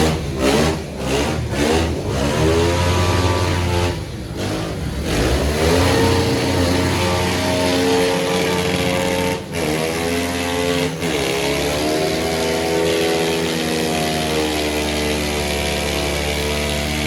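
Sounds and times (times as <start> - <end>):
pit bike engine revving: 0.0 - 17.0.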